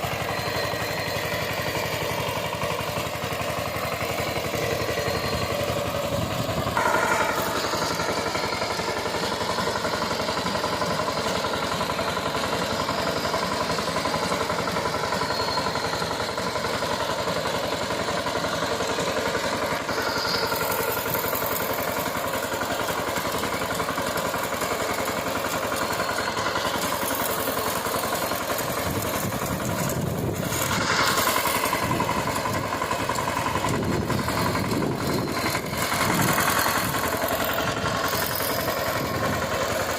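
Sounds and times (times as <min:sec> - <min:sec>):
diesel tiller engine running: 0:00.0 - 0:39.9.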